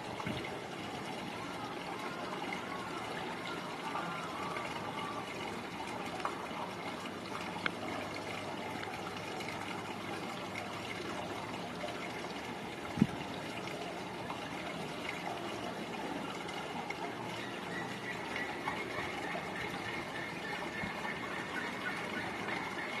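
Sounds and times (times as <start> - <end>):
running trickling water: 0.0 - 23.0.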